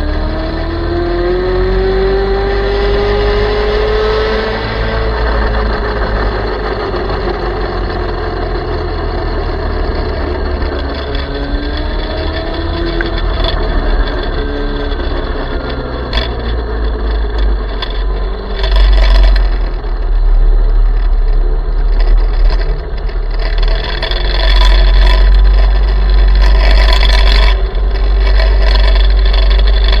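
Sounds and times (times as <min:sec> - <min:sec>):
electric motor whining: 0:00.0 - 0:30.0
wind buffeting microphone: 0:01.6 - 0:30.0.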